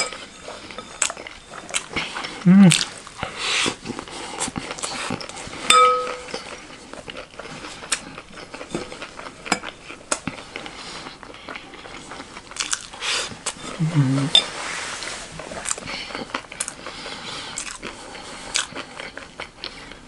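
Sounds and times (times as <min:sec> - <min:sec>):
crunchy chewing: 0:00.0 - 0:14.6, 0:15.3 - 0:20.0.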